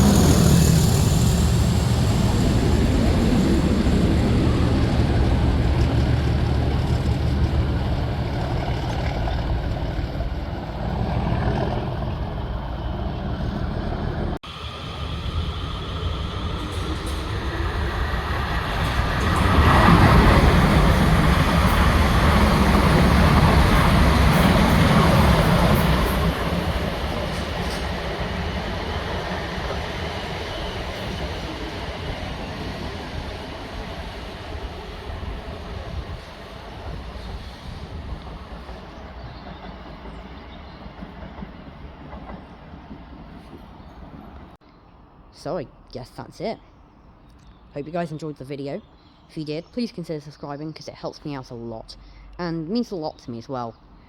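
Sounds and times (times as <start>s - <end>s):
rail noise: 0.0s - 45.3s
train passing: 0.0s - 45.3s
diesel locomotive engines: 0.0s - 45.8s.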